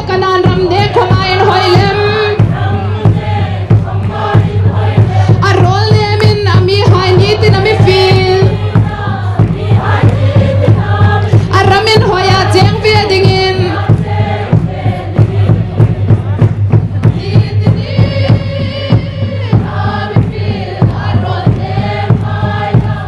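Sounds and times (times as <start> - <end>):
choir singing: 1.0 - 5.4, 7.1 - 23.0.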